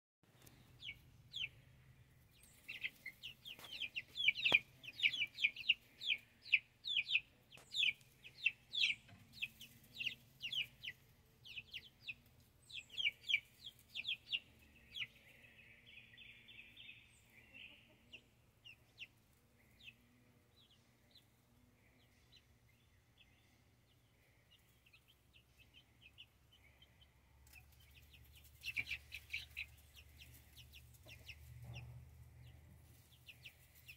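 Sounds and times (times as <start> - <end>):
chicks peeping: 0.3 - 33.9.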